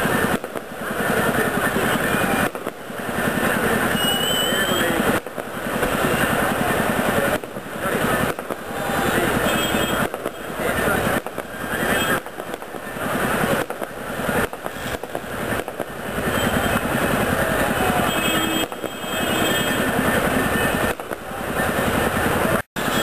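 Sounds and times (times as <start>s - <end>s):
fireworks crackling bangs: 0.0s - 23.0s.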